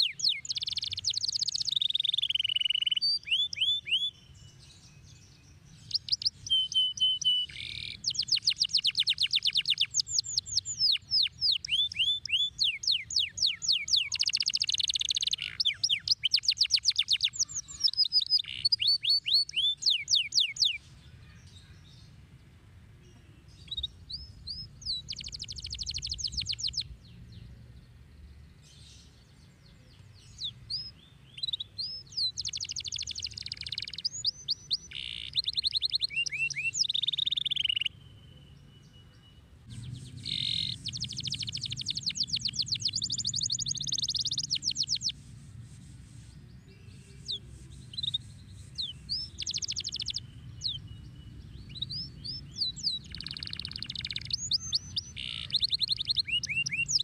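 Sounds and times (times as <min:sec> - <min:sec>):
canary singing trills: 0:00.0 - 0:22.1, 0:23.1 - 0:27.2, 0:28.7 - 0:45.2, 0:46.6 - 0:57.0.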